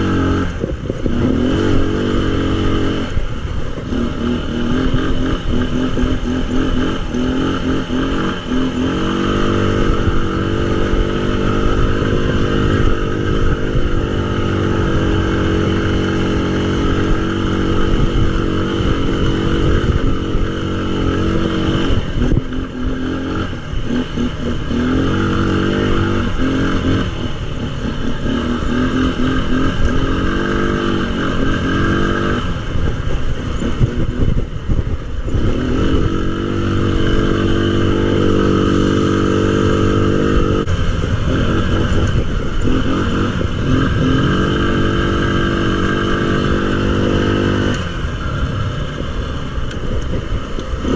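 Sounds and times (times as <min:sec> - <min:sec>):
quad bike engine revving: 0:00.0 - 0:50.9.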